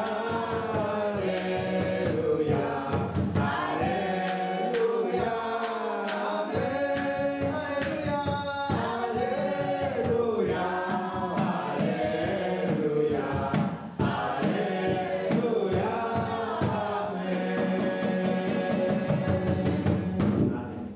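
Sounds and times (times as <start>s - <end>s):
group of voices chanting: 0.0s - 20.4s
steady percussive beat: 0.0s - 20.8s.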